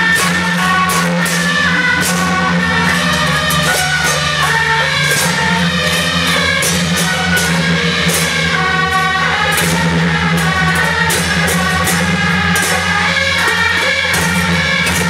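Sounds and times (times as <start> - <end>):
suona melody: 0.0 - 12.9
gong: 0.0 - 15.0
hand cymbals clashing: 0.0 - 15.0.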